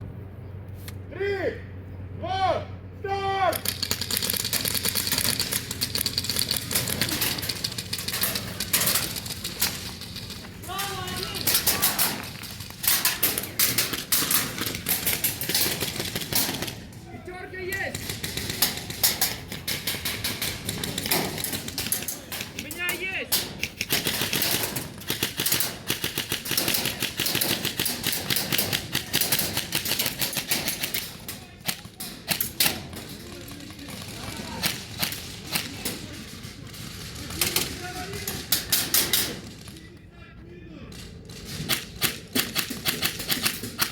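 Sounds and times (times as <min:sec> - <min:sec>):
airsoft guns firing: 0:03.5 - 0:39.9, 0:41.3 - 0:43.9.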